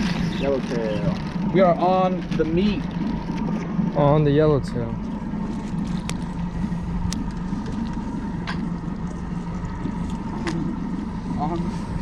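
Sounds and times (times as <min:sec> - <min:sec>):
boat machinery hum: 0:00.0 - 0:12.0.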